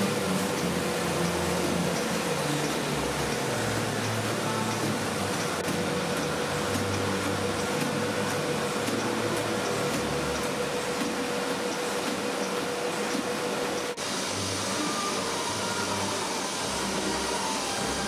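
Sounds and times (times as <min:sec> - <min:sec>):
machine whirring and humming: 0:00.0 - 0:18.0.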